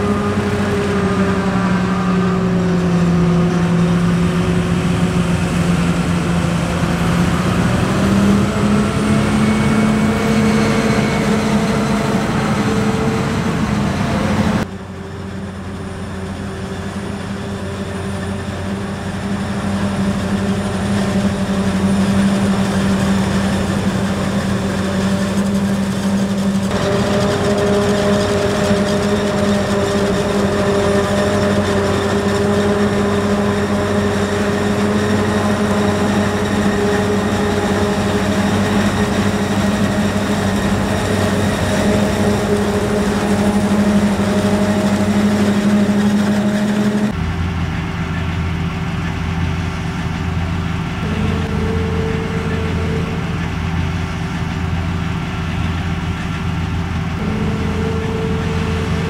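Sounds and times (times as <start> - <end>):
tractors running: 0.0 - 59.0.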